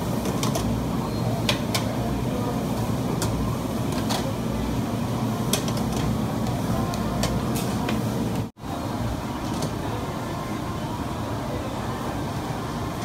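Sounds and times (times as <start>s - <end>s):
ventilation rumble: 0.0s - 13.0s
background chatter: 0.1s - 13.0s.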